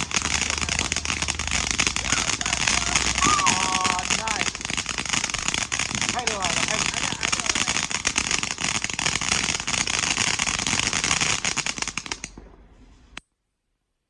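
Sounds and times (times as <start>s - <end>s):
firework crackling: 0.0s - 13.2s.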